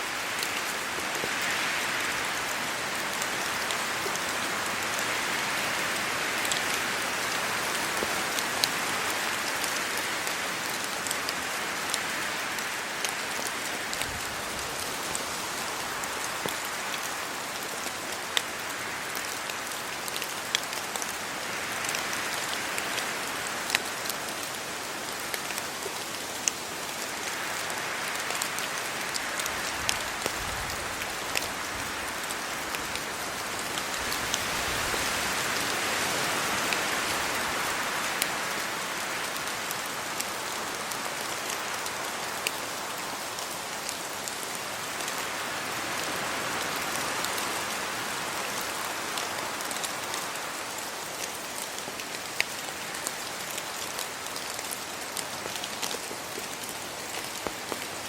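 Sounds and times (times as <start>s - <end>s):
steady rain: 0.0s - 58.0s
wind in tree leaves: 0.0s - 58.0s
raindrops ticking close by: 6.3s - 58.0s.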